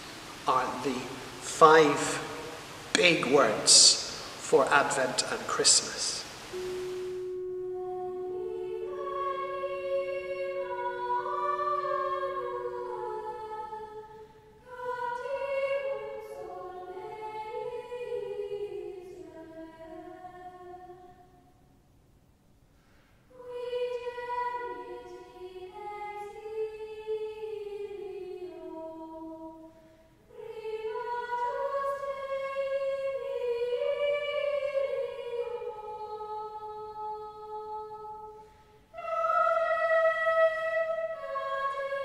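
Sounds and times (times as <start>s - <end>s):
choir singing slow melody: 0.0s - 21.6s, 23.1s - 42.0s.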